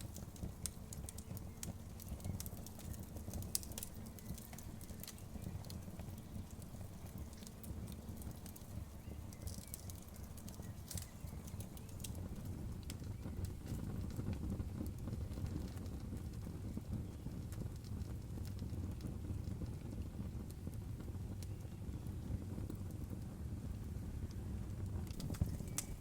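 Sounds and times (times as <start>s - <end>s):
fire pops and snaps: 0.0s - 26.0s
low rumble of burning fire: 0.0s - 26.0s.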